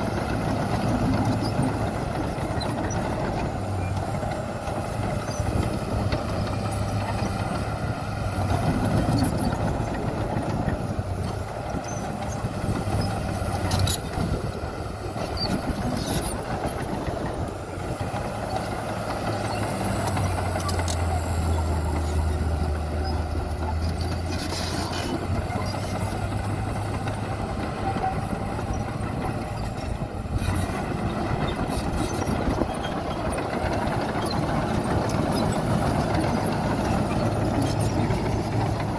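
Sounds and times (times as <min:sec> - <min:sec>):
heavy diesel engine drone: 0:00.0 - 0:38.9.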